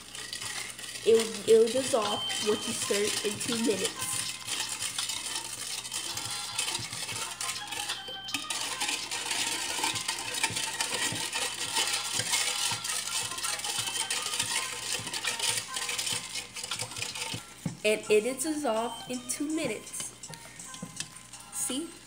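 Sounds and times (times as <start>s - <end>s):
spoon scraping a metal bowl: 0.0s - 22.0s.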